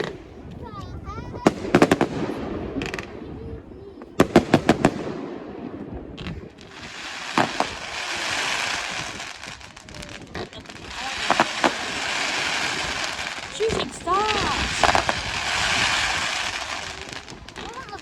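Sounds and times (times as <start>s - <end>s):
fireworks hissing crackle: 0.0s - 0.5s, 1.4s - 3.5s, 4.1s - 18.0s
fireworks bangs: 0.0s - 0.6s, 1.2s - 18.0s.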